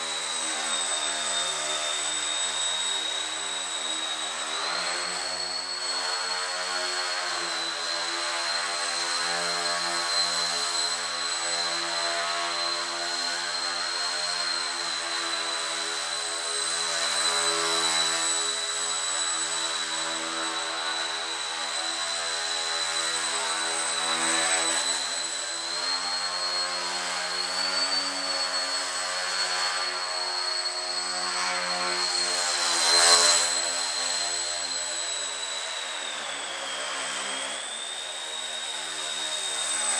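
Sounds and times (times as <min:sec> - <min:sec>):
rc plane propeller whining: 0:00.0 - 0:39.9.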